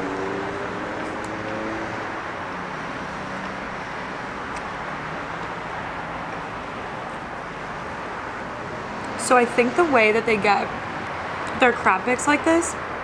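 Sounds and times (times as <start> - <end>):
road traffic noise: 0.0 - 13.0
vehicle engine hum: 0.0 - 13.0.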